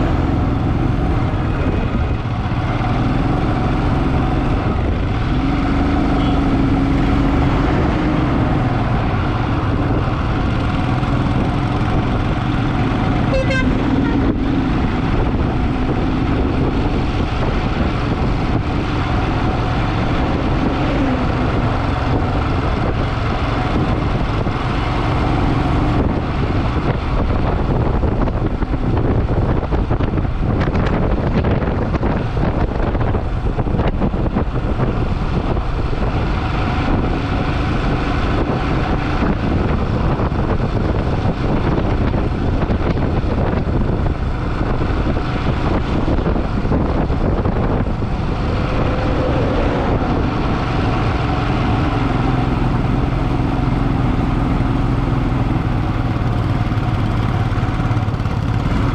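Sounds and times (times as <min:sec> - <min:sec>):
motorcycle engine running: 0:00.0 - 0:58.9
road and wind noise: 0:00.0 - 0:58.9.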